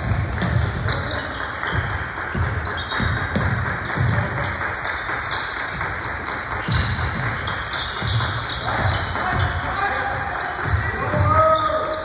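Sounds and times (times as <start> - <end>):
basketball bouncing on gym floor: 0.0 - 12.0.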